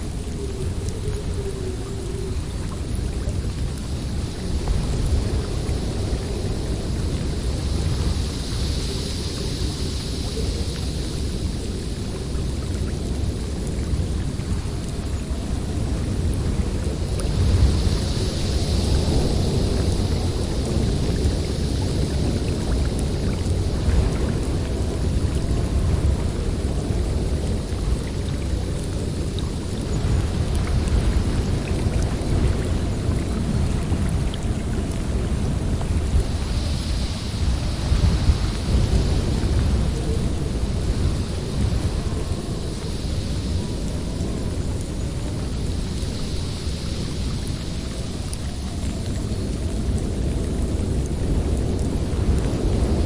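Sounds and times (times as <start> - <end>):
gusting wind: 0.0 - 53.0.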